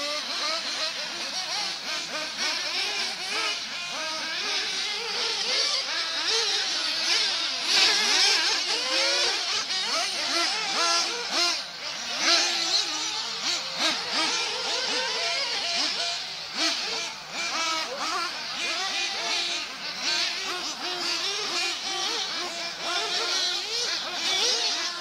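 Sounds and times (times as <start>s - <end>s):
small nitro engines buzzing: 0.0s - 25.0s.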